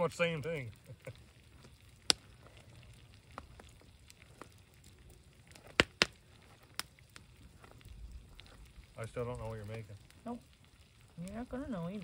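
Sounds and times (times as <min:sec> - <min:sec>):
campfire crackling: 0:00.0 - 0:12.0
fire popping: 0:00.0 - 0:12.0.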